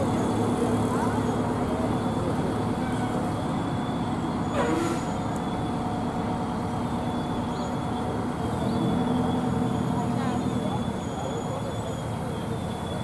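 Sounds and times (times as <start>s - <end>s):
truck engines humming: 0.0s - 13.0s.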